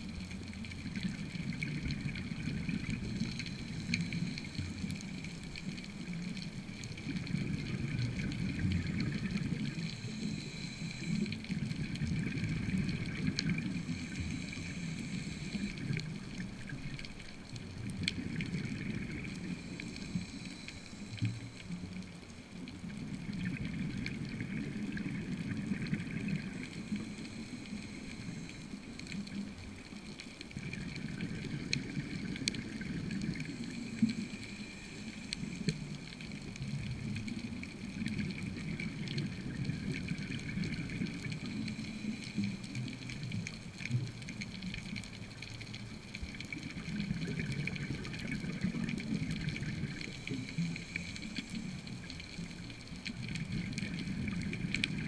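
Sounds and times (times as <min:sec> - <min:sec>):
bubbles gurgling underwater: 0:00.0 - 0:20.4, 0:21.2 - 0:29.8, 0:30.4 - 0:34.4, 0:35.1 - 0:55.0.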